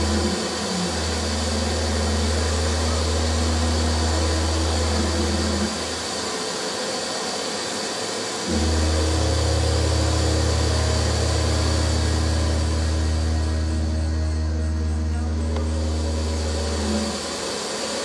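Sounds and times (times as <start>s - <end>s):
constant rushing hiss: 0.0s - 18.0s
low steady drone: 0.0s - 18.0s.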